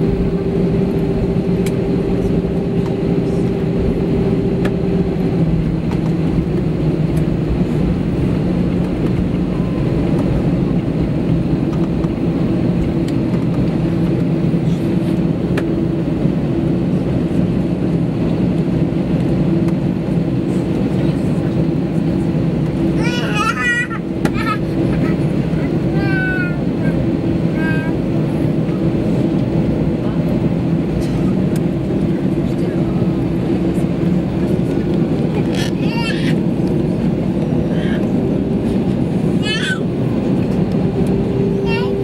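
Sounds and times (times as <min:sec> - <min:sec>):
airplane engine hum: 0:00.0 - 0:42.0.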